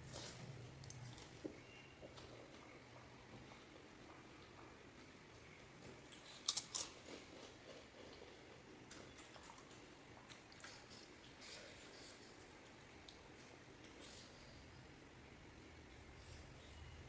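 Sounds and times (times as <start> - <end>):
faint crackles of chewing: 0.0 - 17.0.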